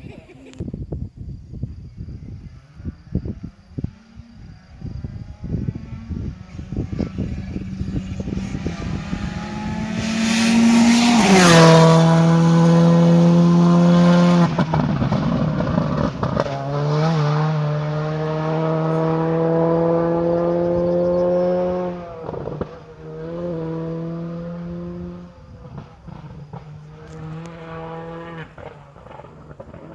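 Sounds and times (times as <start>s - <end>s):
rally car engine at high revs: 2.2s - 29.9s.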